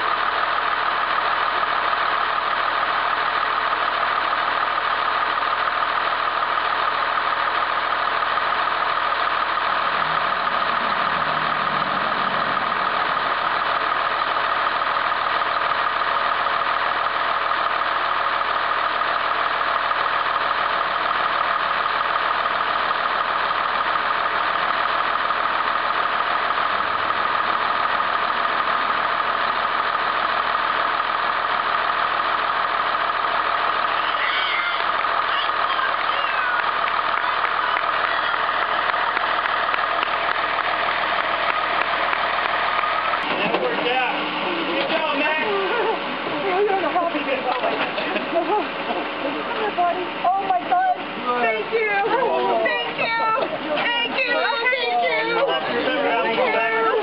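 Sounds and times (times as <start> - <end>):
constant high whine: 0.0 - 57.0
truck engine idling: 0.0 - 57.0.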